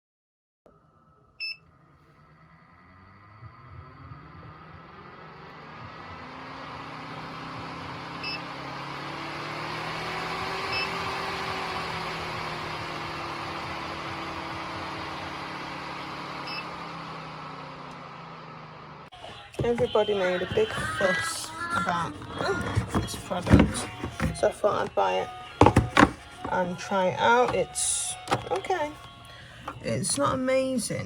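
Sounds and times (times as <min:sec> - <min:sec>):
dust collector fan whirring: 0:03.5 - 0:18.6, 0:19.2 - 0:30.5.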